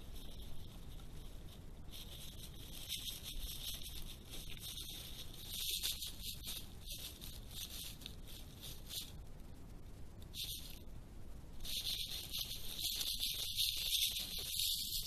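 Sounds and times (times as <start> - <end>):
animal rustling against camera: 0.0 - 9.2, 11.6 - 15.0
camera hiss: 0.0 - 15.0.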